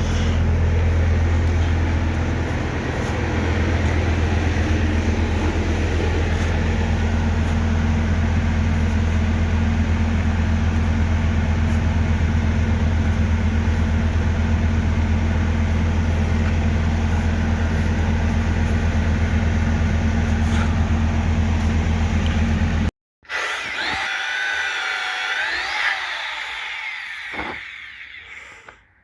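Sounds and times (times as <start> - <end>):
whining sound: 0.0 - 26.6
motor humming: 0.0 - 28.6.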